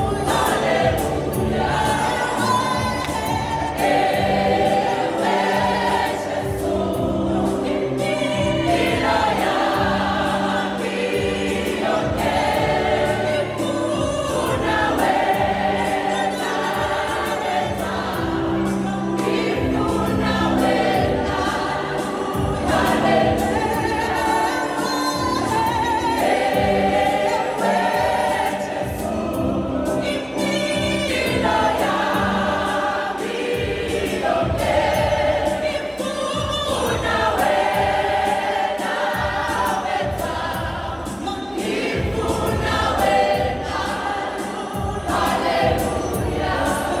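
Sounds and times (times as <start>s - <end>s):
gospel choir singing: 0.0s - 47.0s.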